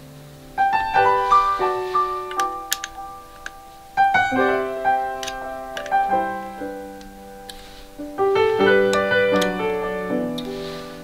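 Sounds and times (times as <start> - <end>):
gentle piano chords: 0.0 - 11.0.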